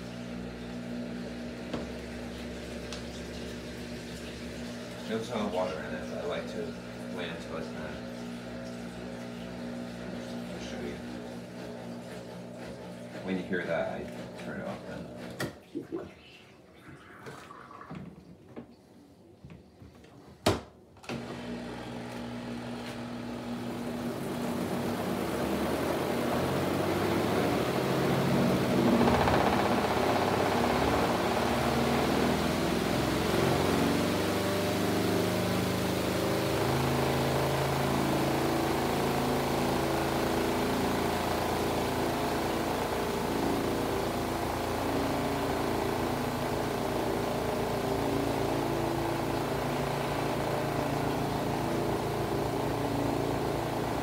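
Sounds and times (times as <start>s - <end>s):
spin dryer motor whirring: 0.0s - 15.6s, 21.0s - 54.0s.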